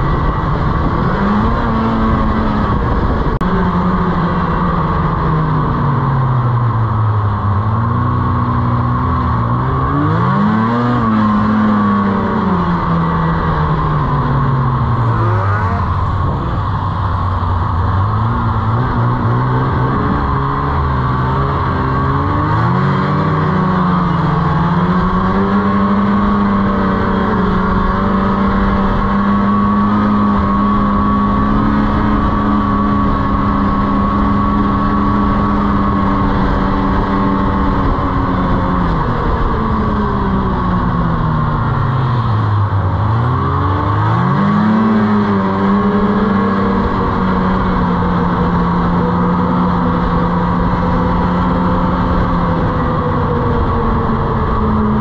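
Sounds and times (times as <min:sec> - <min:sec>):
snowmobile engine: 0:00.0 - 0:55.0.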